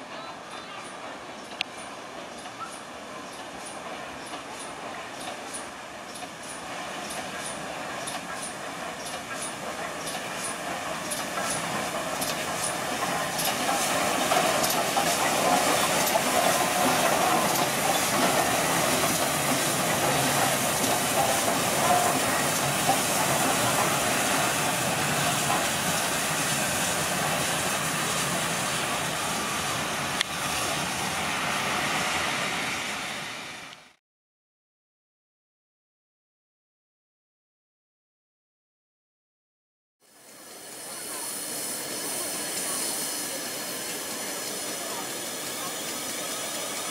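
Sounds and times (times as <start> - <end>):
steam hissing: 0.0 - 33.9, 40.0 - 46.9
rumble of train wheels: 0.0 - 34.0, 40.0 - 46.9.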